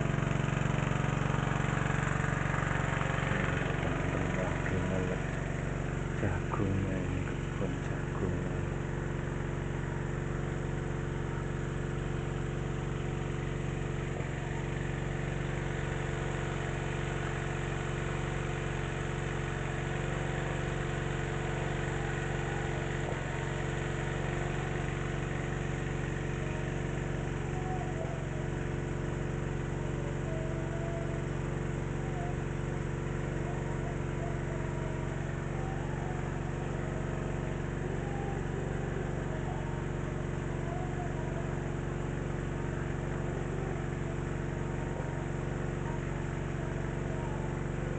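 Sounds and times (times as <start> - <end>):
water pump engine running: 0.0 - 47.9.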